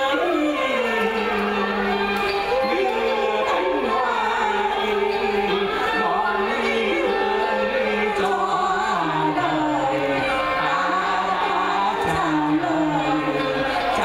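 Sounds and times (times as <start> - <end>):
man and woman singing duet: 0.0 - 14.0
music accompaniment: 0.0 - 14.0.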